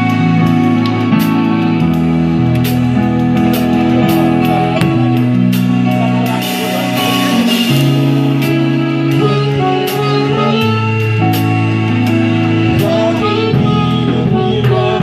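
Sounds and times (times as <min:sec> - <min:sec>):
keyboard playing held chords: 0:00.0 - 0:15.0.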